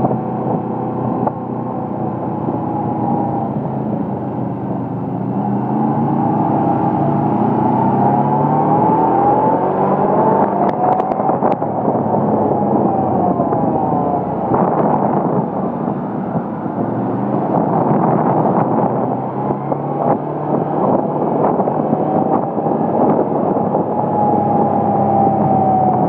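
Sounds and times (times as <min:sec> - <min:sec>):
high whine: 0:00.0 - 0:26.0
vehicle engine running: 0:00.0 - 0:26.0
wind buffeting microphone: 0:00.0 - 0:26.0.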